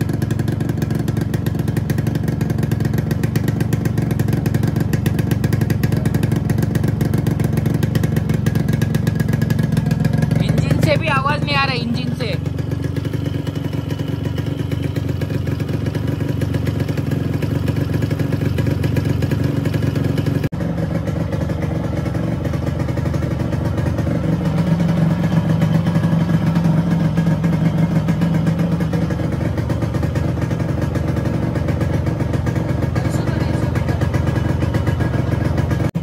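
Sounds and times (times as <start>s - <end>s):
two-stroke motorcycle engine running: 0.0s - 36.0s.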